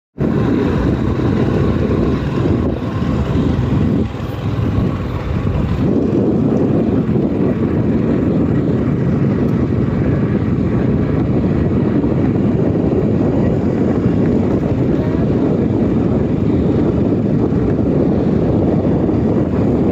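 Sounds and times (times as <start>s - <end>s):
scooter engine running: 0.2s - 19.9s
wind buffeting microphone: 0.2s - 19.9s.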